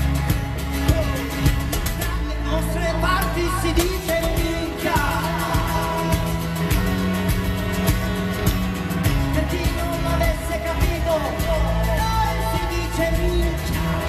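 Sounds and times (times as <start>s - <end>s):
acoustic and electric guitars: 0.0s - 14.0s
bass line: 0.0s - 14.0s
steady drum beat: 0.0s - 14.0s
person singing: 0.6s - 7.4s, 8.6s - 14.0s.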